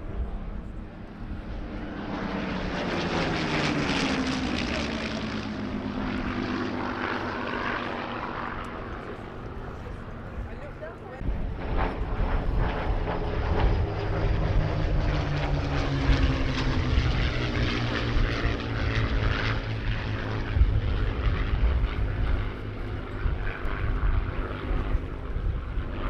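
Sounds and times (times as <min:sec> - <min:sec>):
propeller planes droning past: 0:00.0 - 0:26.0.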